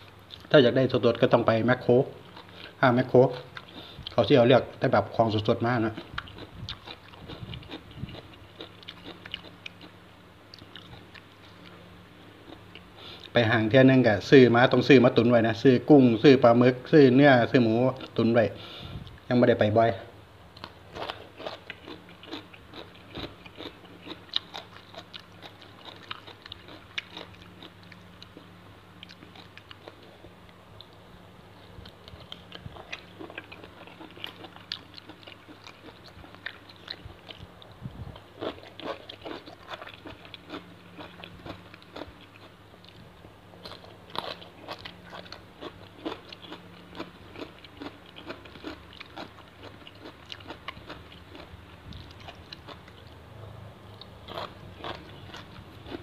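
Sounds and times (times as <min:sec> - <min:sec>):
crunching and chewing food: 0:00.0 - 0:19.6, 0:20.5 - 0:56.0
low steady hum: 0:00.0 - 0:56.0.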